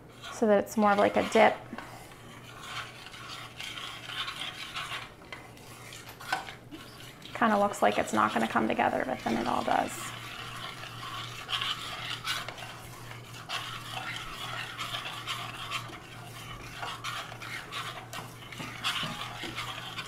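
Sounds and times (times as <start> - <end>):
metal spoon scraping saucepan: 0.1 - 20.0.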